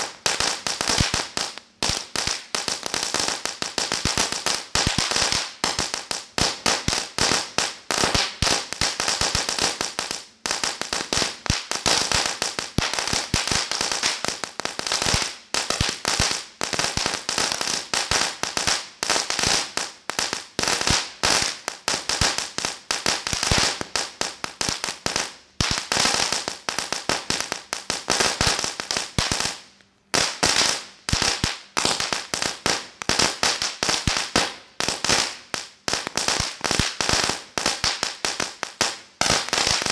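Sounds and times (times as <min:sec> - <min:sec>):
firecracker bangs and crackles: 0:00.0 - 0:39.9.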